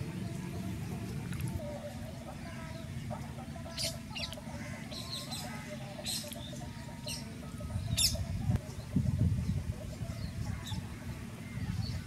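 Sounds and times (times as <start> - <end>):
birds chirping: 0.0 - 12.0
faint outdoor background: 0.0 - 12.0.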